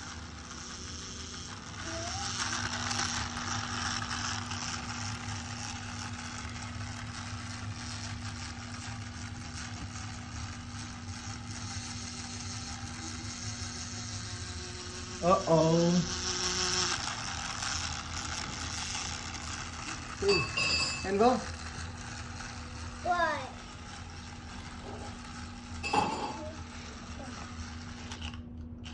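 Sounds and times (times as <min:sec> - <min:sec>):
toy car motor whirring: 0:00.0 - 0:28.9
toy cars on plastic track: 0:00.0 - 0:28.9.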